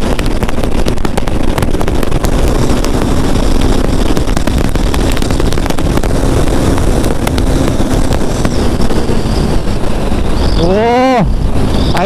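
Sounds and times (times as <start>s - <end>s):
motorcycle engine running hard: 0.0s - 12.0s
wind buffeting on microphone: 0.0s - 12.0s.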